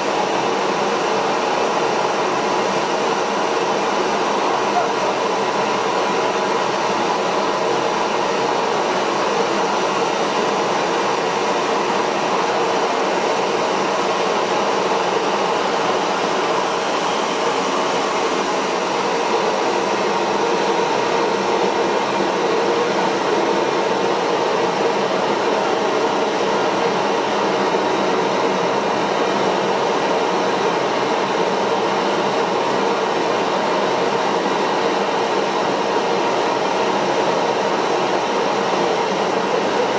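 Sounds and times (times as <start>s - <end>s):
small jet engine running: 0.0s - 39.9s.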